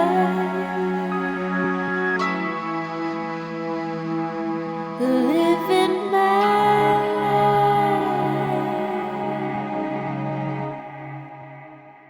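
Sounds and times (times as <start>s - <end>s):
soft synth pad chords: 0.0s - 12.0s.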